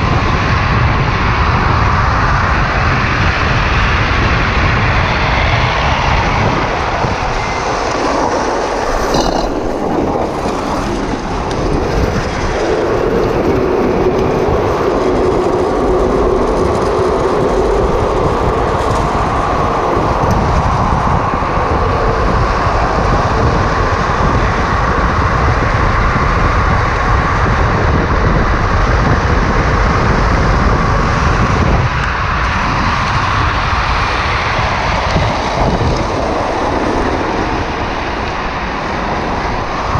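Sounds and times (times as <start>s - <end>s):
rushing wind: 0.0s - 39.9s
wheels rumbling on tarmac: 0.0s - 39.9s.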